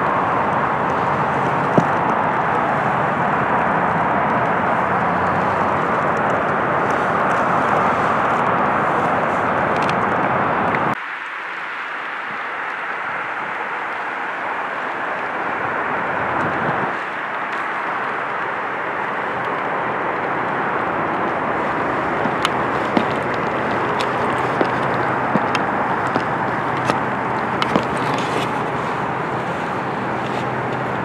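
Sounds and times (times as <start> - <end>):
rushing background noise: 0.0 - 31.0.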